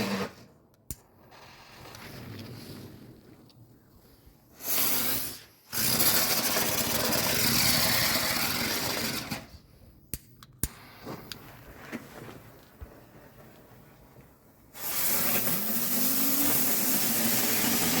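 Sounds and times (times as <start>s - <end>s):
spinning firework hissing whine: 0.0s - 3.4s, 4.0s - 9.8s, 10.6s - 18.0s.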